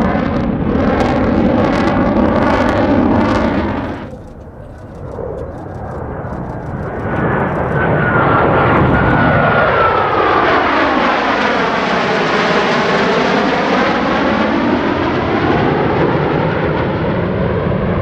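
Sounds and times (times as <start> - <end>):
jet making low pass: 0.0 - 18.0.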